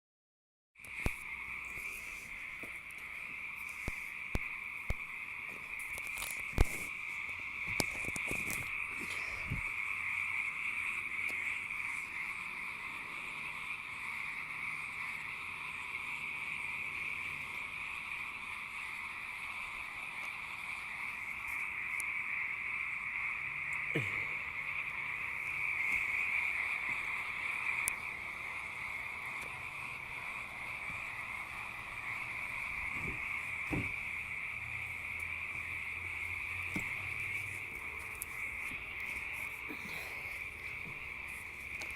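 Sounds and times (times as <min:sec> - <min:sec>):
frogs calling: 0:00.8 - 0:41.9.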